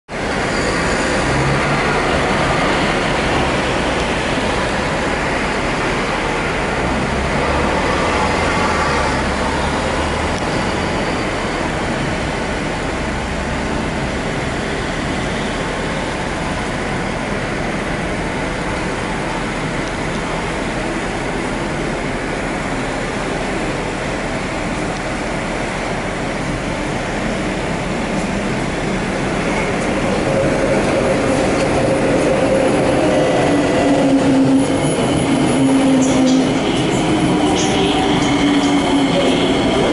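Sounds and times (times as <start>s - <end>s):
electric train rumbling on track: 0.1s - 39.9s.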